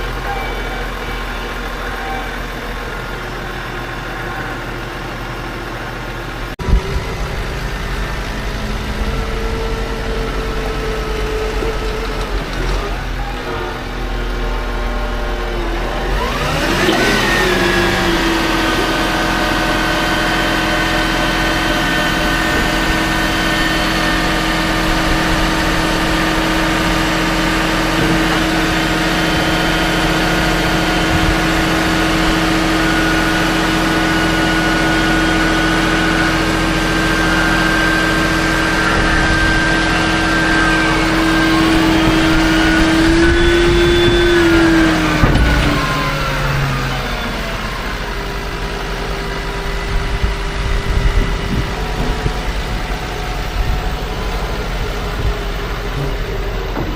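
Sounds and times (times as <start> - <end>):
farm machine engine revving: 0.0 - 56.9.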